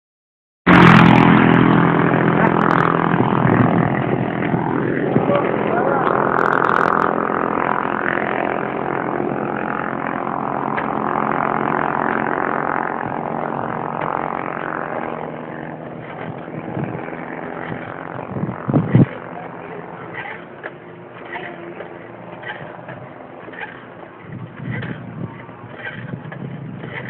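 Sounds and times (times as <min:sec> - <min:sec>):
vehicle engine running: 0:00.7 - 0:27.0.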